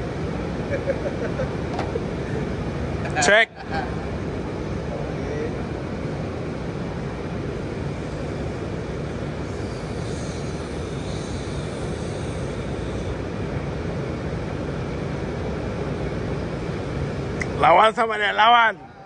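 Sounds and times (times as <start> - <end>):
shopping mall background hum: 0.0 - 19.0.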